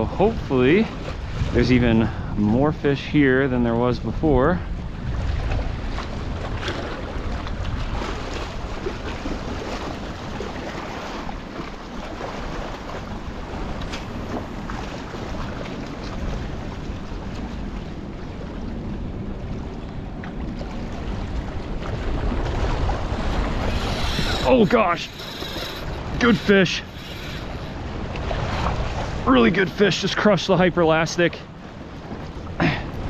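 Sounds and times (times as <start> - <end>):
surf on rocks: 0.0 - 4.6, 5.2 - 33.0
wind buffeting microphone: 0.0 - 29.9.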